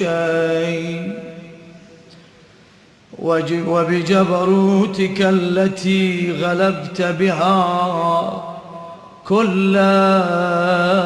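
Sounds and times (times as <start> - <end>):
man chanting melodically: 0.0 - 2.1, 3.1 - 11.0.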